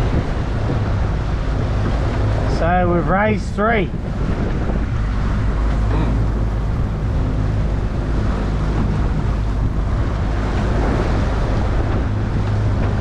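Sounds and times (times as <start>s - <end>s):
boat motor humming: 0.0s - 13.0s
choppy sea rushing: 0.0s - 13.0s
wind buffeting microphone: 0.0s - 13.0s.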